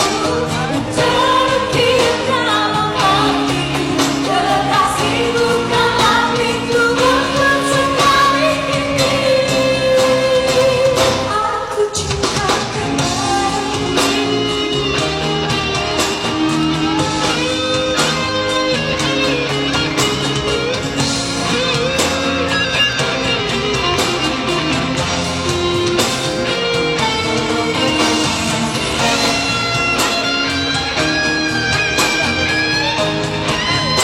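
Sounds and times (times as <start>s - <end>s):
guitar-led pop band music: 0.0s - 34.0s.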